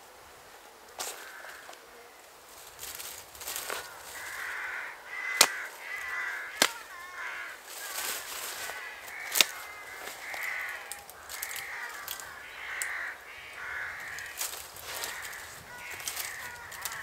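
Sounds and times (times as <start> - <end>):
birds calling: 1.0 - 17.0.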